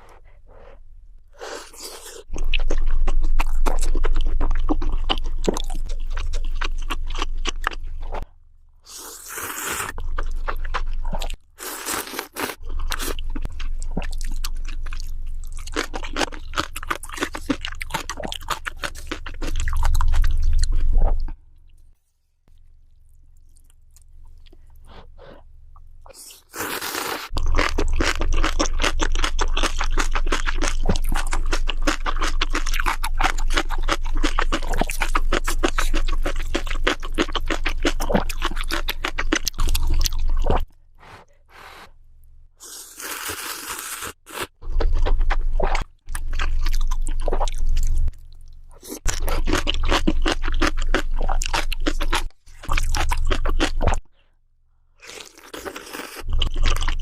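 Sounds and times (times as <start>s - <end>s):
person crunching and chewing food: 1.4s - 21.9s, 26.1s - 40.8s, 42.6s - 54.1s, 55.0s - 57.0s.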